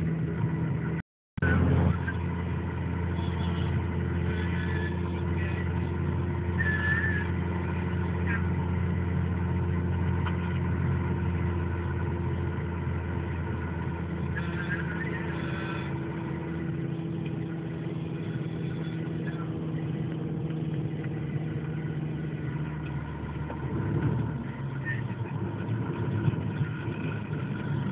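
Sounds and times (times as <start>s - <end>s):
vehicle engine idling: 0.0s - 27.9s.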